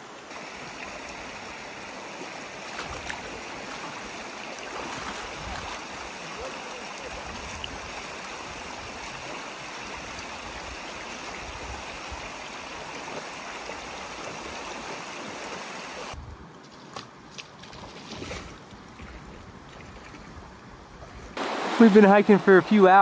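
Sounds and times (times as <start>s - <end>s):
creek water running: 0.0s - 16.2s, 16.8s - 23.0s.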